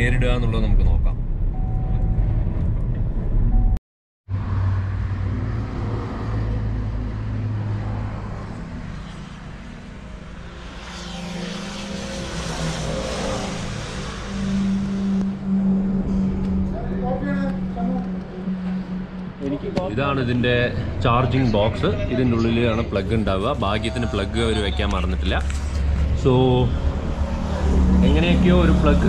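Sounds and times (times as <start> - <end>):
road vehicle rumble: 0.0 - 29.0.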